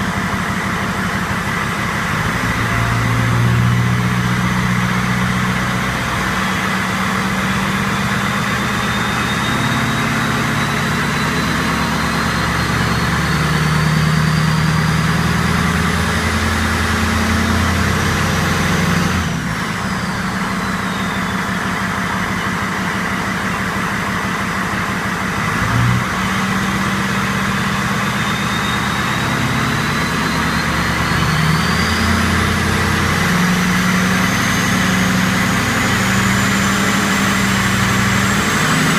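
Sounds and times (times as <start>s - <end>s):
diesel engine running: 0.0s - 38.9s
turbo whistling: 2.5s - 38.9s.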